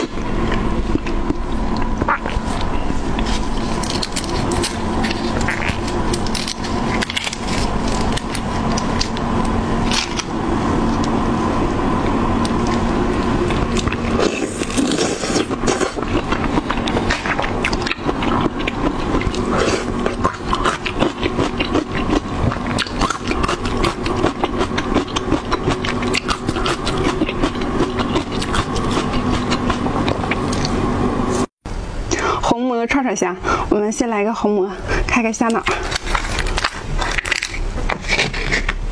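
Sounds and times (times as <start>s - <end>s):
chewing close to microphone: 0.0s - 10.3s, 12.4s - 30.7s, 35.5s - 38.8s.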